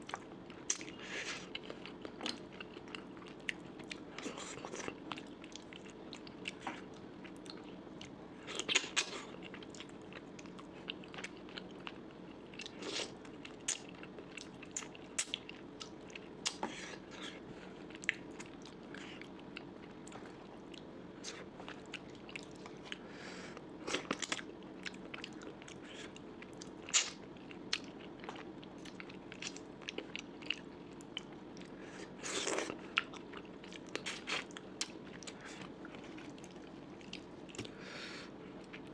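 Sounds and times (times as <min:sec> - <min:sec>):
faint steady hum: 0:00.0 - 0:38.9
person chewing food: 0:00.0 - 0:38.9.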